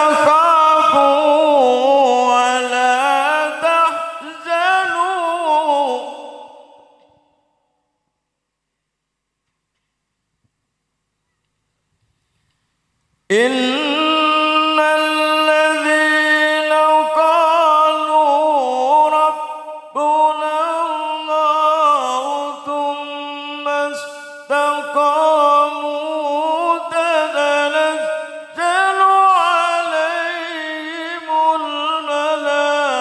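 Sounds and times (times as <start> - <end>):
man reciting melodically: 0.0 - 7.0, 13.3 - 33.0.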